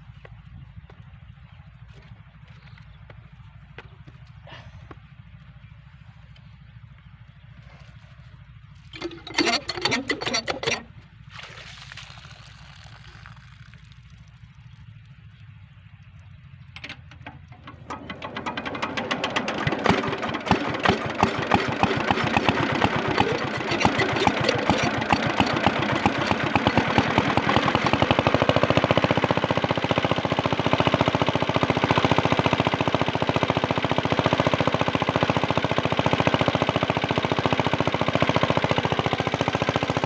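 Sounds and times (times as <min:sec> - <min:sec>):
diesel pump engine running: 0:00.0 - 0:40.0.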